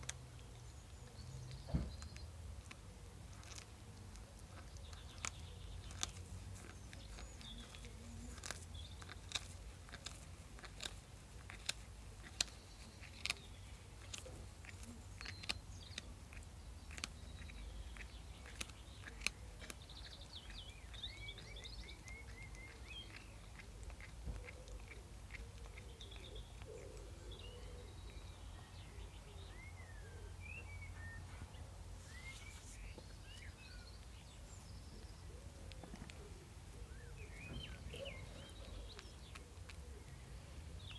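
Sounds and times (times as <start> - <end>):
pet crunching a snack: 0.0 - 30.1, 30.9 - 40.9.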